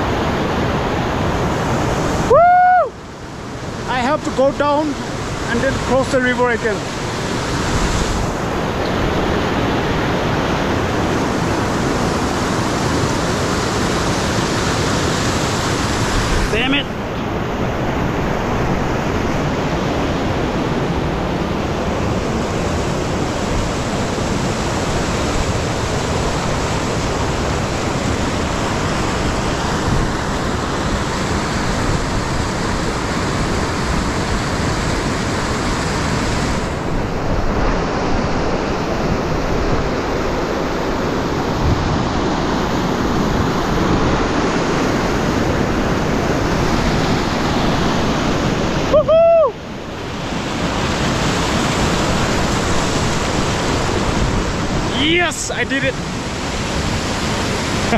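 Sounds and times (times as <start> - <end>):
mountain river rushing: 0.0 - 57.9.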